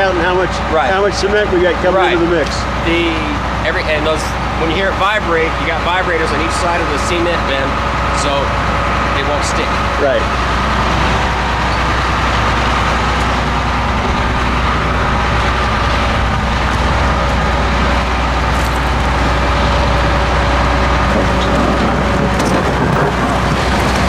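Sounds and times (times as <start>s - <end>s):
concrete mixer truck running: 0.0s - 24.0s
steady high whine: 0.0s - 24.0s.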